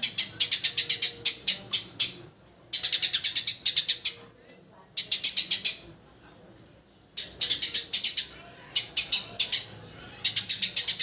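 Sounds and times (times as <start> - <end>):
sparrow chirping: 0.0 - 4.3, 5.0 - 5.9, 7.2 - 11.0.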